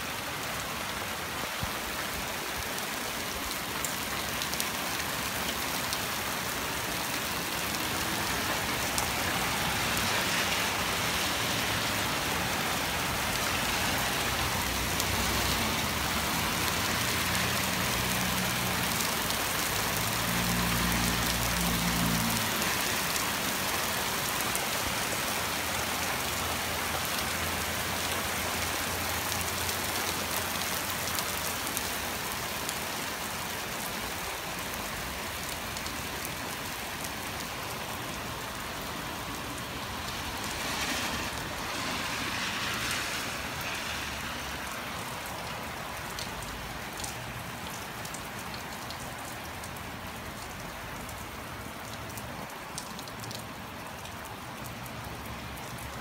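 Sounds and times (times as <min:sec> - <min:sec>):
car passing on wet street: 0:00.0 - 0:56.0
heavy rain on roofs and trees: 0:00.0 - 0:56.0.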